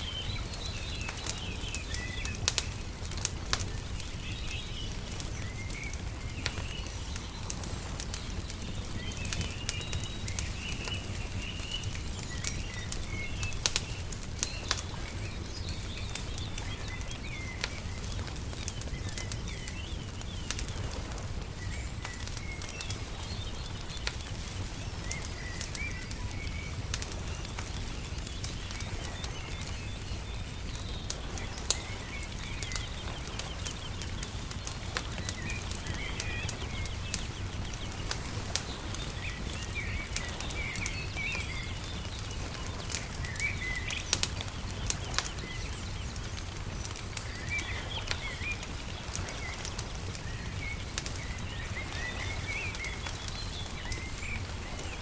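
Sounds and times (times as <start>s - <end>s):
small birds chirping: 0.0s - 55.0s
wood fire crackling and popping: 0.0s - 55.0s.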